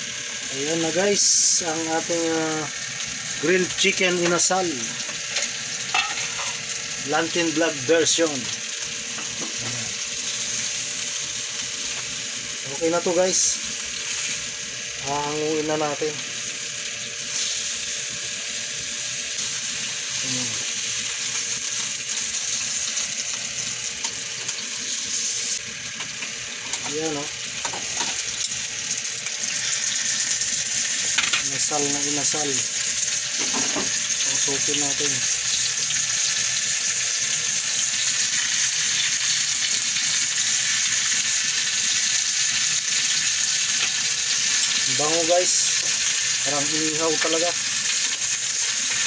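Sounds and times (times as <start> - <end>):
chicken sizzling in frying pan: 0.0 - 49.0.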